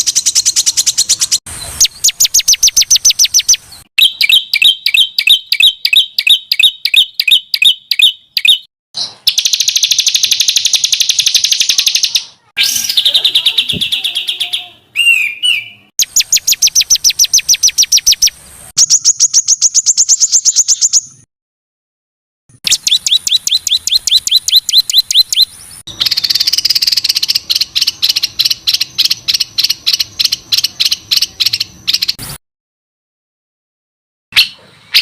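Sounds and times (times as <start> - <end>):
songbirds singing sharp repeated notes: 0.0 - 21.3, 22.5 - 32.4, 34.3 - 35.0.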